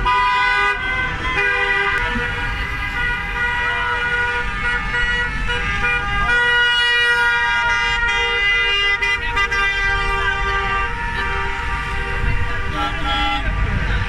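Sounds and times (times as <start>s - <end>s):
car horns blasting: 0.0s - 14.0s
low rumble of engines: 0.0s - 14.0s.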